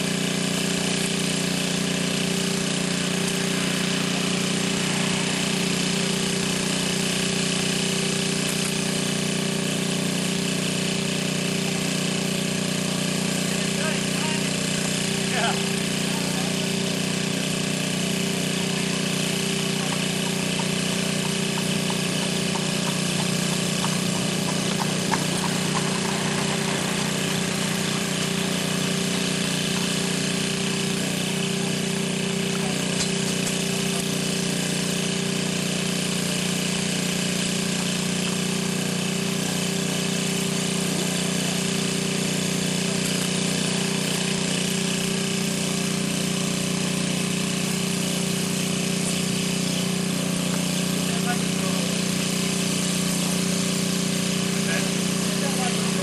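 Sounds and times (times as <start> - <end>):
mechanical drone with hiss: 0.0 - 56.0.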